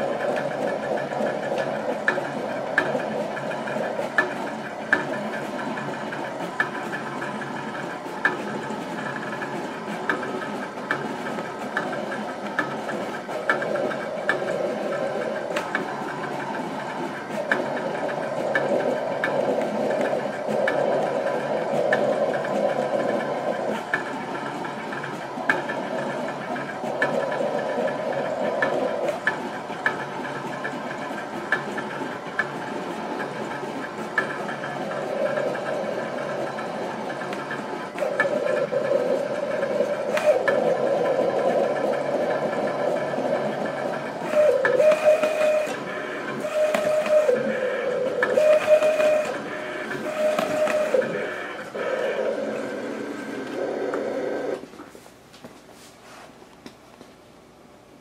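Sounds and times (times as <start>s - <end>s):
cutting plotter whirring: 0.0s - 55.2s.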